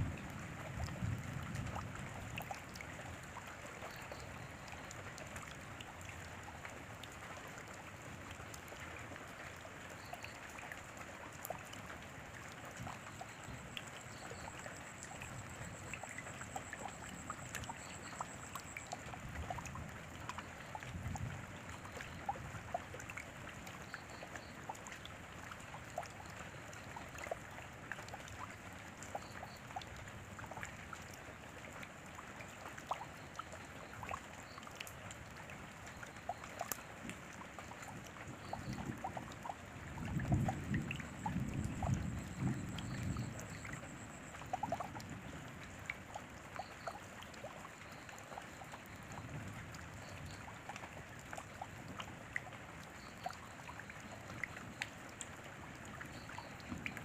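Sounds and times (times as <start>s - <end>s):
rain drops ticking: 0.0s - 57.0s.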